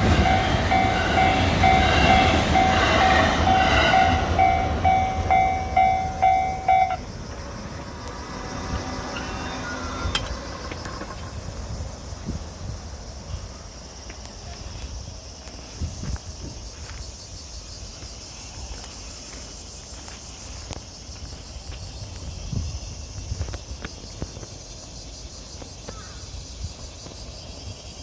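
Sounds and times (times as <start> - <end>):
high-pitched insect chorus: 0.0 - 28.0
passing train: 0.0 - 28.0.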